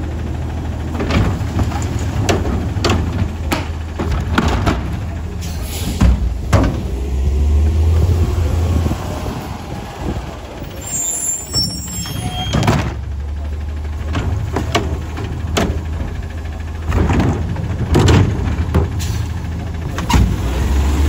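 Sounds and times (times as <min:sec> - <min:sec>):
trash cart clanking and banging: 0:00.0 - 0:08.2, 0:09.7 - 0:21.0
truck engine running: 0:00.0 - 0:21.0.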